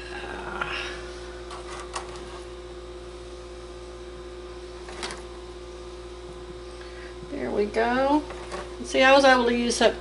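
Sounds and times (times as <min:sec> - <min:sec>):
electrical hum of appliance: 0:00.0 - 0:10.0.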